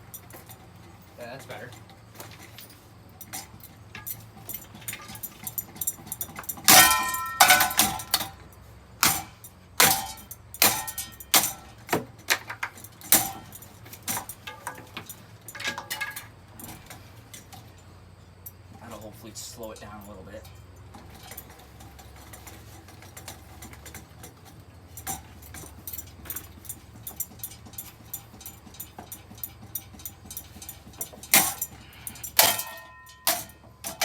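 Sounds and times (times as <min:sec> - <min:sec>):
metal clanks on ceiling fan: 0:00.0 - 0:34.0.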